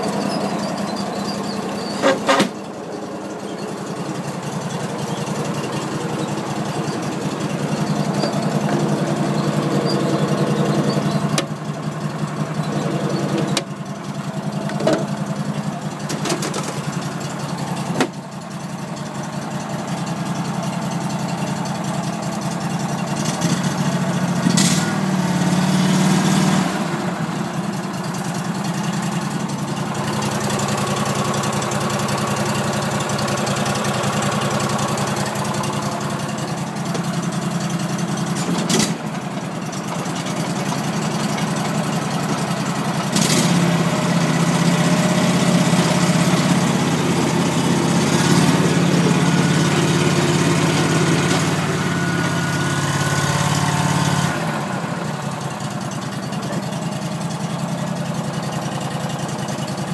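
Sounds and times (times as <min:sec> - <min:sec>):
ride-on mower engine running: 0:00.0 - 0:59.9.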